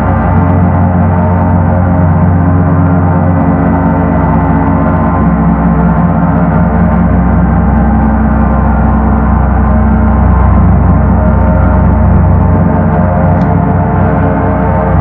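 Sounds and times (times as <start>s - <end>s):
gong rumbling: 0.0s - 15.0s.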